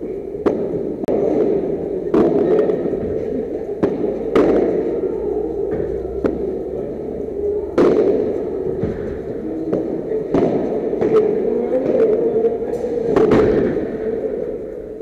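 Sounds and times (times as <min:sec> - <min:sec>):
hall hum: 0:00.0 - 0:15.0.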